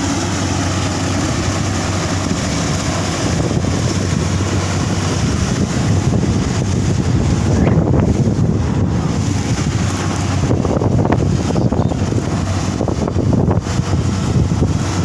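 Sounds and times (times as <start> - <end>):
engine running low: 0.0 - 15.0
wind buffeting microphone: 0.0 - 15.0.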